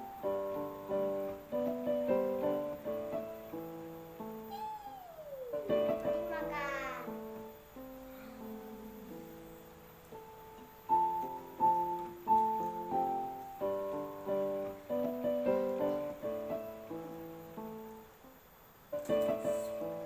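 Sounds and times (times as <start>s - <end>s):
piano music: 0.0s - 18.3s.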